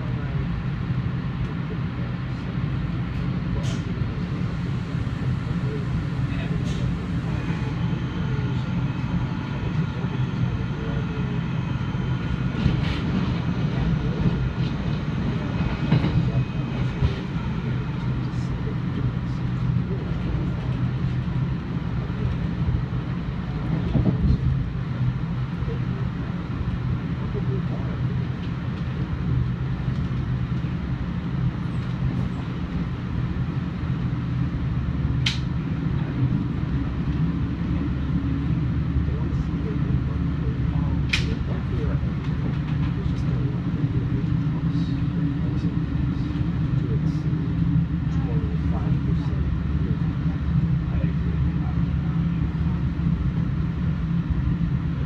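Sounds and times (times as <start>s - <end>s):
passenger train rumbling: 0.0s - 55.0s
train passing alongside: 0.0s - 55.0s.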